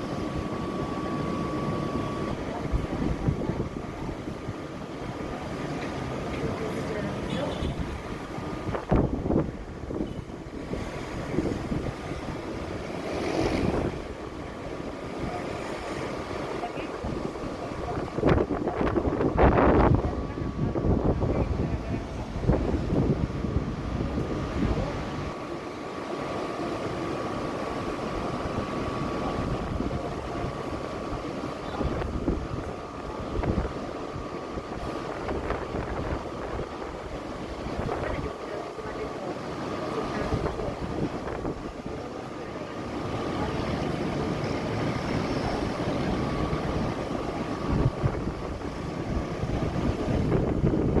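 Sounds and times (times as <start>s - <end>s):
wind buffeting microphone: 0.0s - 6.3s, 7.6s - 25.4s, 27.2s - 39.0s, 39.6s - 51.0s
strong wind blowing: 1.9s - 5.5s, 7.7s - 25.4s, 27.7s - 38.7s, 40.0s - 51.0s.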